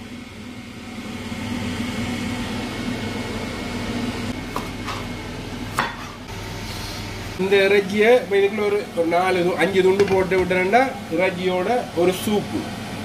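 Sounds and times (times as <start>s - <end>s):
kitchen appliance motor hum: 0.0s - 13.0s.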